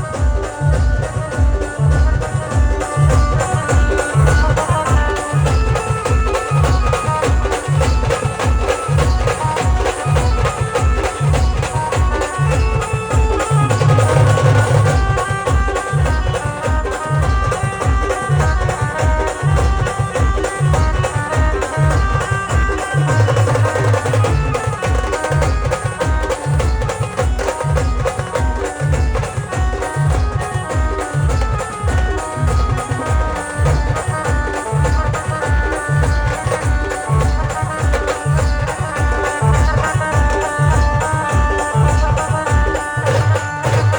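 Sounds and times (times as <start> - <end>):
band melody: 0.0 - 43.9
fast drum beat: 0.0 - 43.9.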